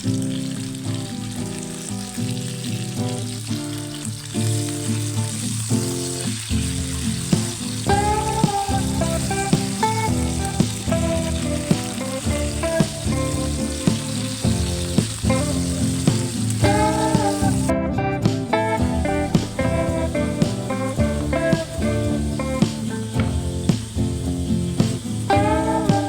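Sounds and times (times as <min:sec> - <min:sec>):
food sizzling in frying pan: 0:00.0 - 0:17.7, 0:18.3 - 0:26.0
instrumental background music: 0:00.0 - 0:26.0.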